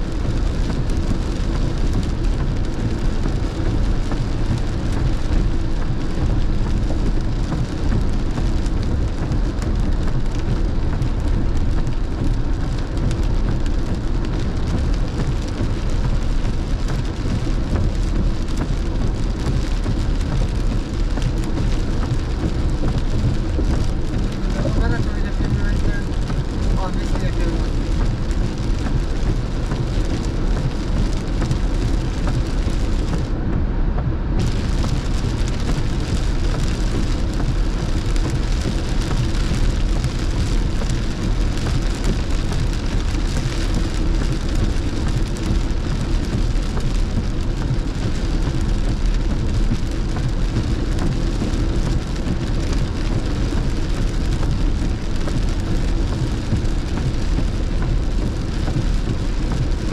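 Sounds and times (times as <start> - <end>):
steady rain: 0.0 - 59.9
wet road noise: 0.0 - 59.9.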